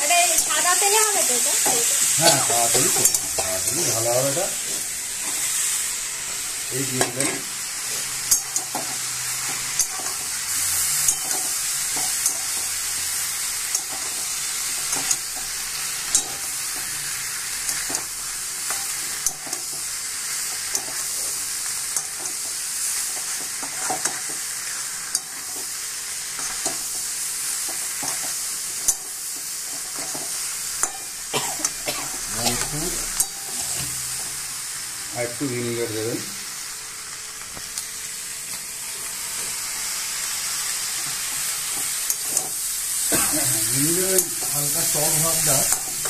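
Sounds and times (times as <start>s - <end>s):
food sizzling in a wok: 0.0s - 46.0s.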